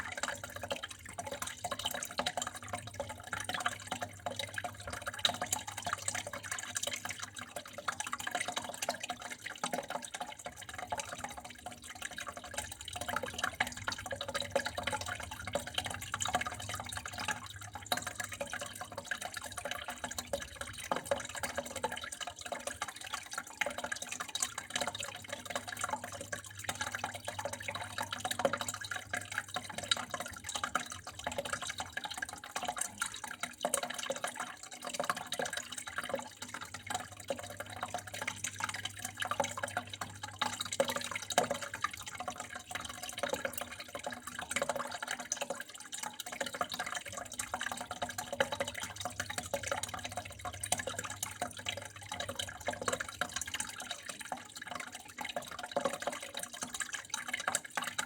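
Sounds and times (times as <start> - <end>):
water dripping and trickling: 0.0 - 58.0.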